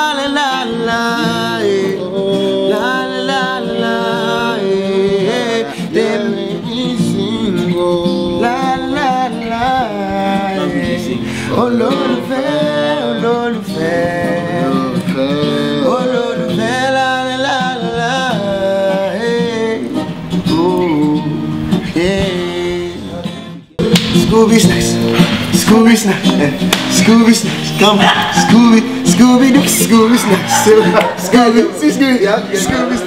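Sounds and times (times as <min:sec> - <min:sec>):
acoustic guitar: 0:00.0 - 0:33.0
men singing wordless melody: 0:00.0 - 0:33.0.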